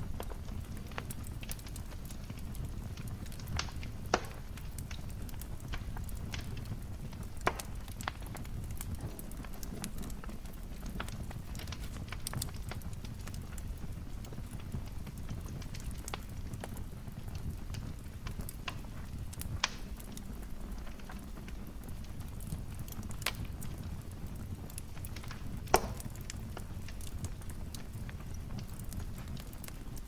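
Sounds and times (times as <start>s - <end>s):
fire popping: 0.0s - 30.0s
wood fire crackling: 0.0s - 30.0s.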